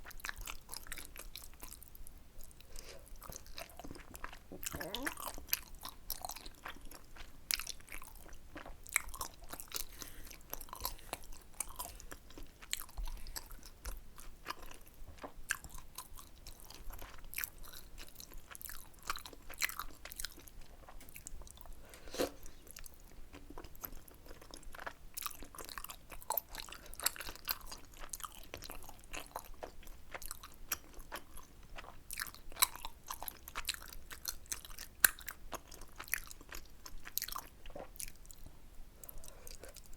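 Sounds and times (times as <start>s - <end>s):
close chewing with wet smacks: 0.0s - 21.8s, 22.4s - 39.9s.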